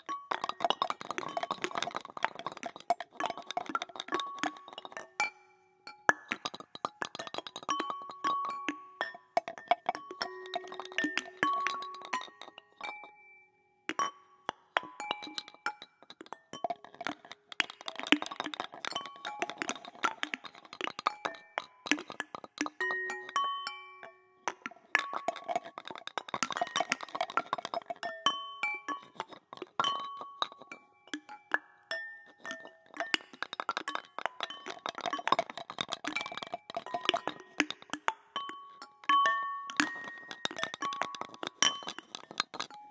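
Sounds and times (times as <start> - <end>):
found-object percussion clinks and taps: 0.0 - 42.9.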